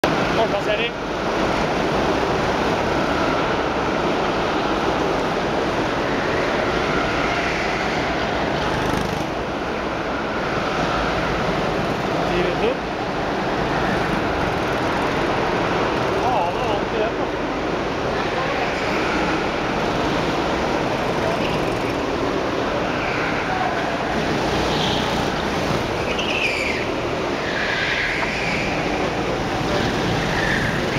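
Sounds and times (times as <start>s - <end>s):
go-kart engines droning: 0.0s - 30.9s.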